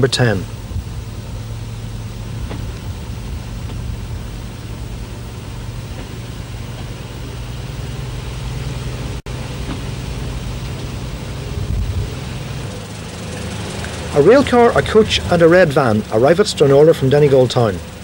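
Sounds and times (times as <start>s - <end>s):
diesel railcar running: 0.0s - 18.0s.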